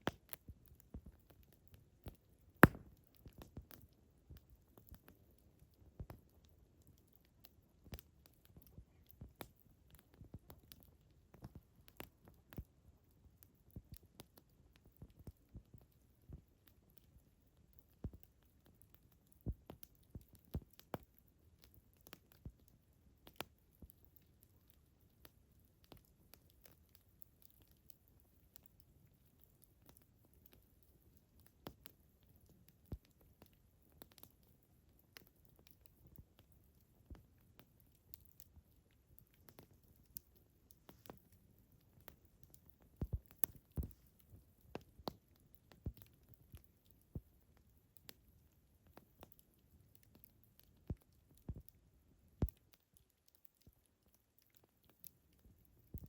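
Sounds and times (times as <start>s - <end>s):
campfire wood crackling: 0.0s - 56.0s
faint low hiss: 0.0s - 56.0s.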